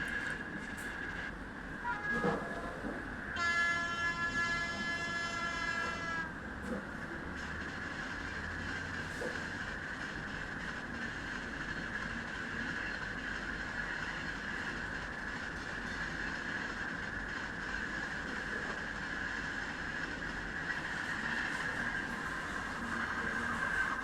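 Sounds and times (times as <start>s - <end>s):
train running on rails: 0.0s - 24.0s.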